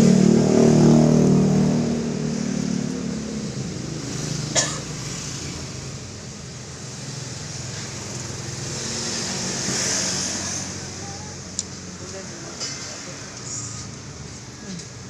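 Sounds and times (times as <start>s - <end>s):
road traffic hum and hiss: 0.0s - 15.0s.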